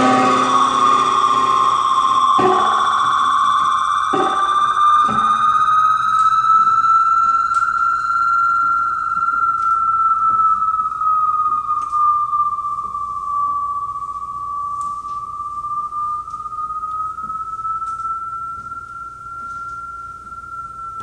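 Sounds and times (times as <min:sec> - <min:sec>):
sustained amplified viola tone: 0:00.0 - 0:21.0.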